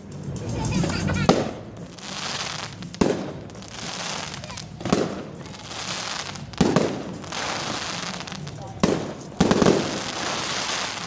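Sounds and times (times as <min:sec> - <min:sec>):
firework bangs: 0:01.2 - 0:11.0.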